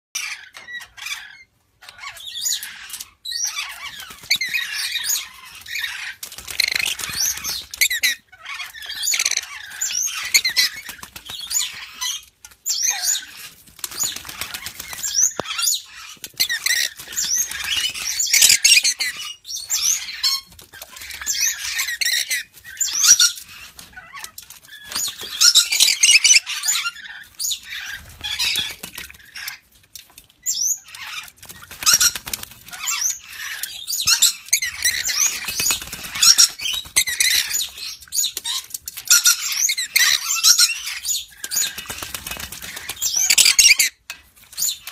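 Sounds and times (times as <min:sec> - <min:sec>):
lories chattering and screeching: 0:00.2 - 0:44.9.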